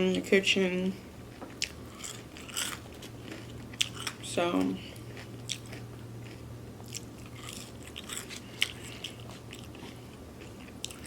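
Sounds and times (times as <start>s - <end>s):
steady low hum: 0.0s - 11.0s
person chewing food: 1.2s - 11.0s.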